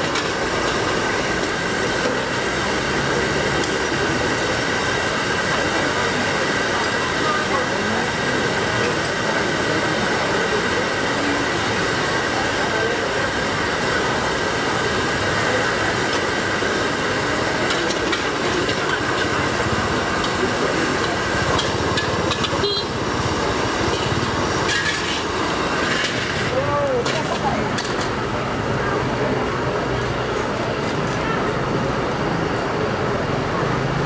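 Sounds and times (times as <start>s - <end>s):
gas burners rushing: 0.0s - 34.0s.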